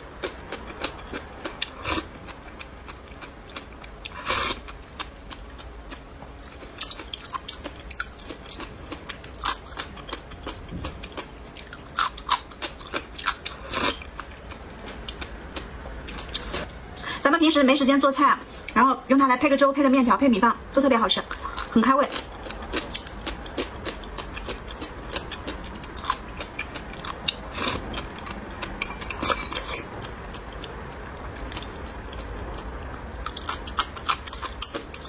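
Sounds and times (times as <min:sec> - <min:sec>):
chewing and crunching pickled radish: 0:00.2 - 0:16.7, 0:20.7 - 0:35.0.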